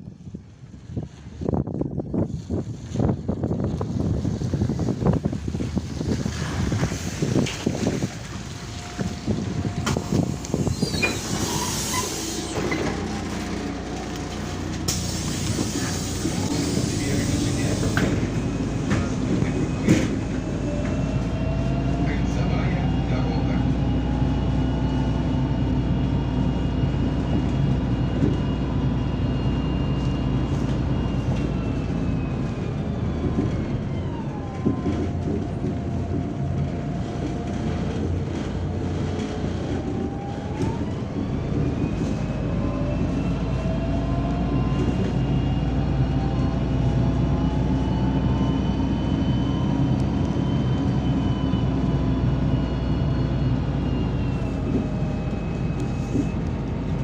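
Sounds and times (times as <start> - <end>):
bus engine hum and whine: 0.0 - 57.0.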